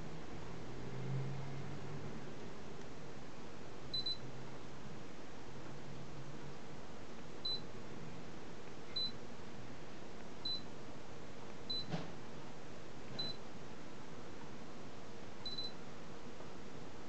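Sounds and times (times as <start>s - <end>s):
air conditioner airflow hiss: 0.0s - 17.0s.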